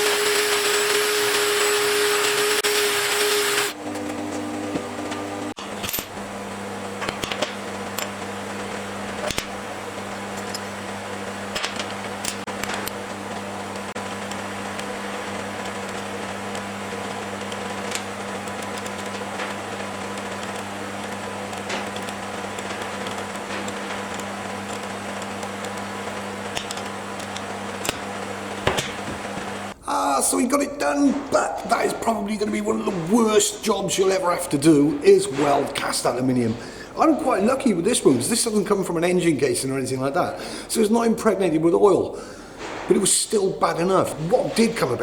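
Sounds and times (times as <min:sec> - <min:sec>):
welding arc buzzing: 0:00.0 - 0:38.8.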